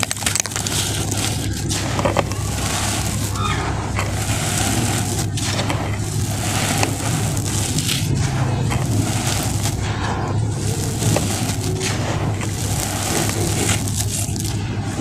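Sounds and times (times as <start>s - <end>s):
low rumble: 0.0s - 15.0s
sand pouring: 0.0s - 15.0s.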